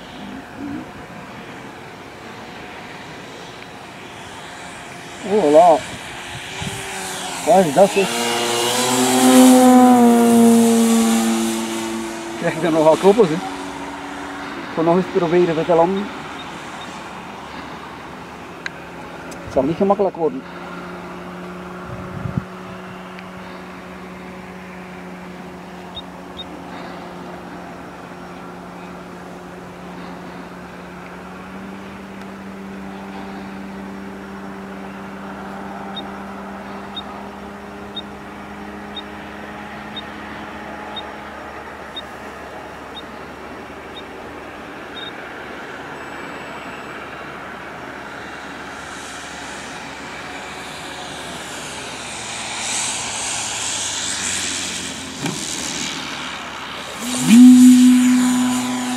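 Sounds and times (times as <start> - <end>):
model plane propeller droning: 0.0 - 58.9
propeller and air rush: 0.0 - 58.9.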